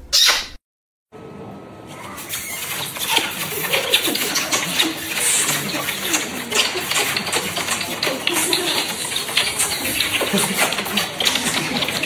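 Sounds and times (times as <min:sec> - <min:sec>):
soft murmuring voice: 0:01.9 - 0:12.0.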